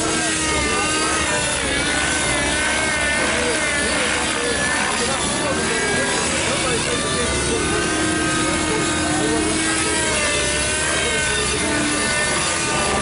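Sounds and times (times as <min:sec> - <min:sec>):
rc helicopter engine and rotor: 0:00.0 - 0:13.0.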